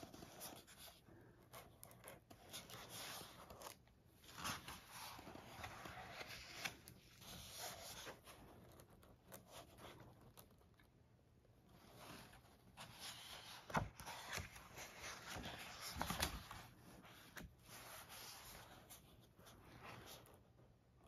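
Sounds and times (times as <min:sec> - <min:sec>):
book pages turning: 0:00.0 - 0:10.9, 0:11.7 - 0:20.5.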